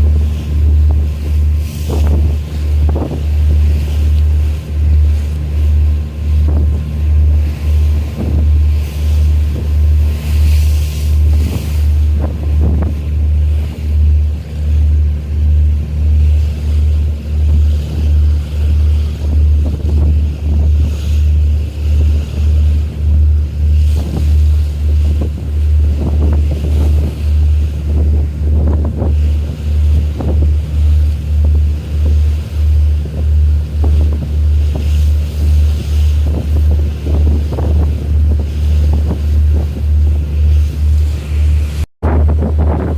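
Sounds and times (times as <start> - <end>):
boat engine throbbing: 0.0 - 42.9
water noise: 0.0 - 42.9
wind: 0.0 - 42.9.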